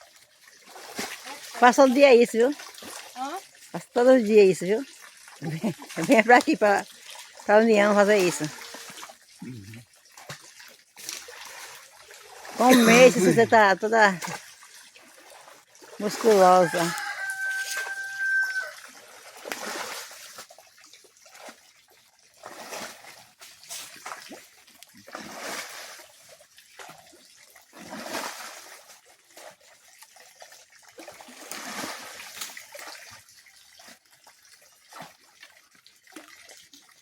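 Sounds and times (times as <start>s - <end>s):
water splashing and trickling: 0.0s - 37.0s.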